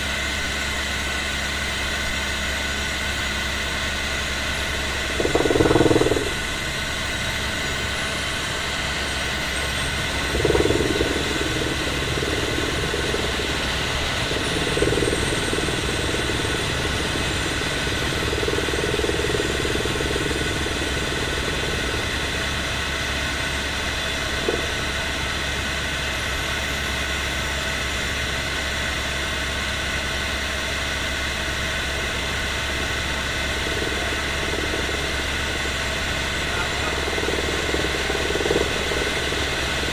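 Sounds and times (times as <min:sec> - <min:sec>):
helicopter rotor drone: 0:00.0 - 0:39.9
helicopter whine: 0:00.0 - 0:39.9.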